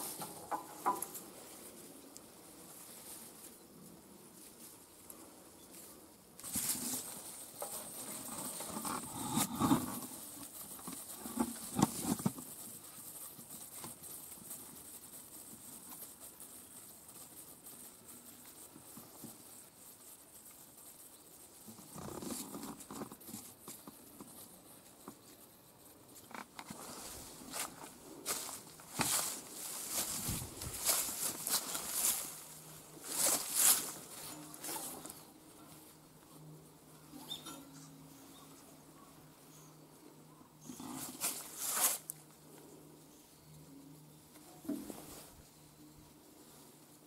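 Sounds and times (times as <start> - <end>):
rustling in dry grass: 0.0 - 47.0.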